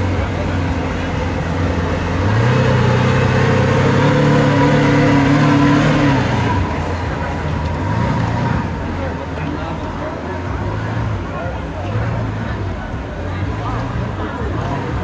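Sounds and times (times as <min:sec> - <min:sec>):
sports car engine revving: 0:00.0 - 0:15.0.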